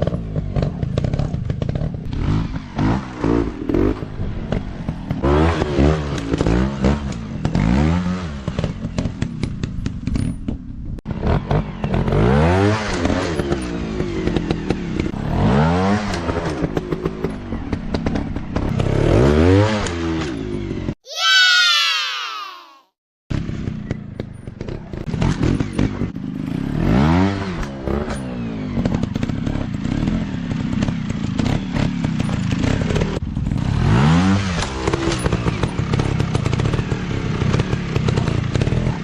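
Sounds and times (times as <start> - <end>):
dirt bike engine revving: 0.0 - 9.3, 11.1 - 20.6, 24.6 - 39.0.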